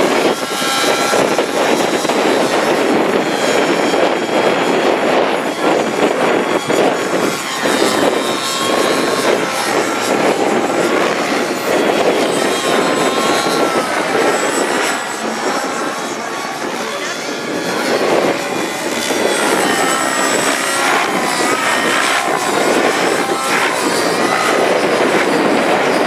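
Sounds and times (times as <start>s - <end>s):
model helicopter buzzing: 0.0s - 26.0s
whine gliding in pitch: 0.0s - 26.0s.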